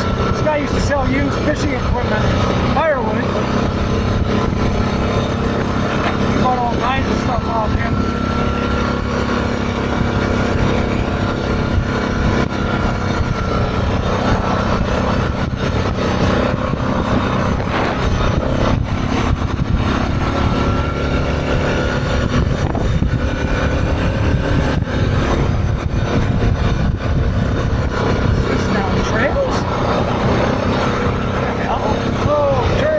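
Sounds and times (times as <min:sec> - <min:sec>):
atv engine running: 0:00.0 - 0:32.9
wind and road noise: 0:00.0 - 0:32.9.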